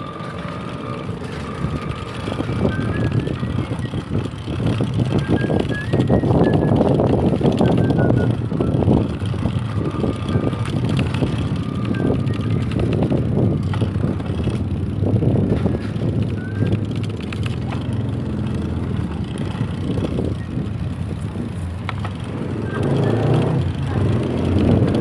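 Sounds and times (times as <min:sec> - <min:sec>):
bicycle road and wind noise: 0:00.0 - 0:25.0.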